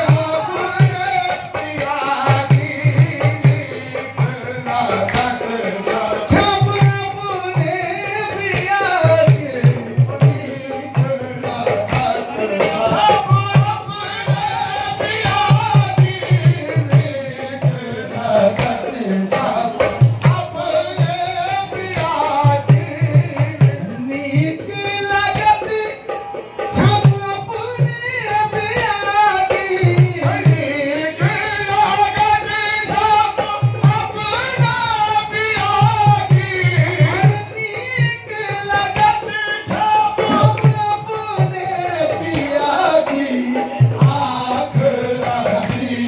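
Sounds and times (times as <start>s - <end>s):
hand drum rhythm: 0.0s - 46.0s.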